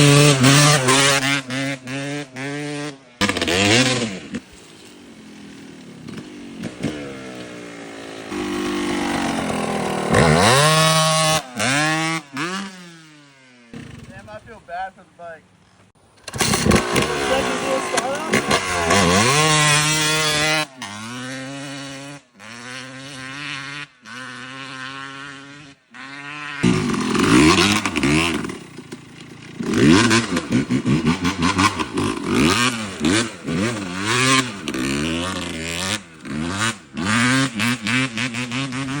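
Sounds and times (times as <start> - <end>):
two-stroke motorcycle engine revving: 0.0 - 39.0.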